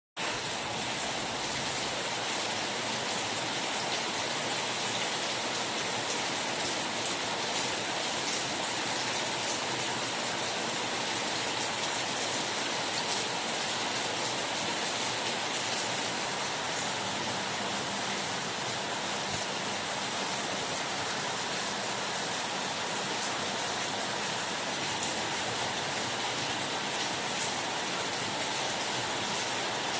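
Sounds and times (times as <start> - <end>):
steady rain falling: 0.2 - 29.9.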